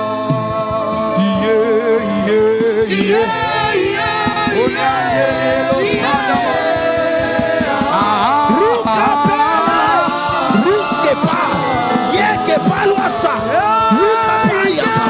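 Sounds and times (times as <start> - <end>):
keyboard sustained chords: 0.0 - 15.0
wavering sung voices: 0.0 - 15.0.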